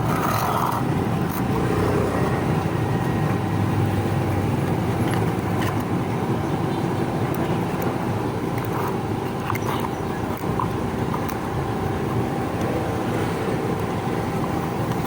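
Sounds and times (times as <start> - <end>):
road traffic rumble: 0.0 - 15.0
vehicle engine running: 0.0 - 15.0.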